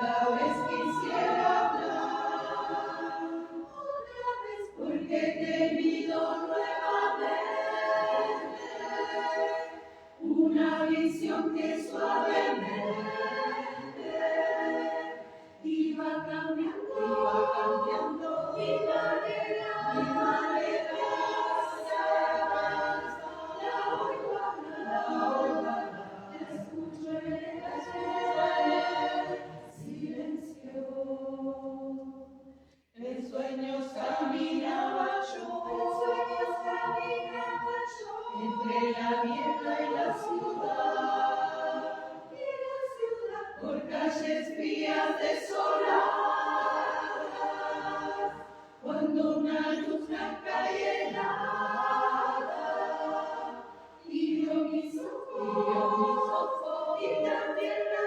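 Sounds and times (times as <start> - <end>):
choir singing a cappella: 0.0 - 58.0.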